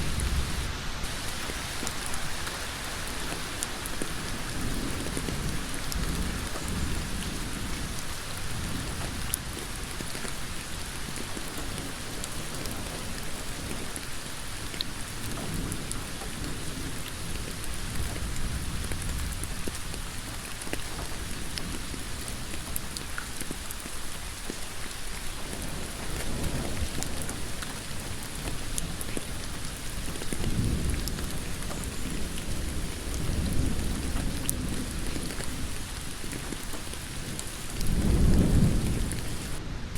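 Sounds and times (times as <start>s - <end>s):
heavy rain on a road: 0.0s - 39.7s.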